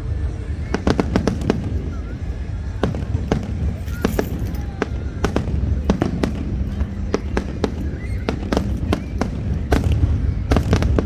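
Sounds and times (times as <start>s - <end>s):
continuous low rumble: 0.0s - 11.0s
fireworks bangs and pops: 0.1s - 11.0s.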